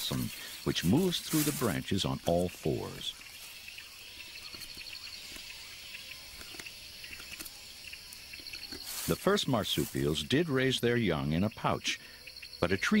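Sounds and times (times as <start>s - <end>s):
high insect hiss: 0.0s - 13.0s
pulsing insect trill: 0.0s - 13.0s.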